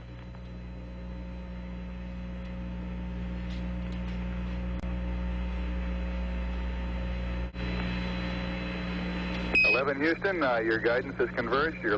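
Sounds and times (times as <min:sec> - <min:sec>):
electrical hum with hiss: 0:00.0 - 0:11.9.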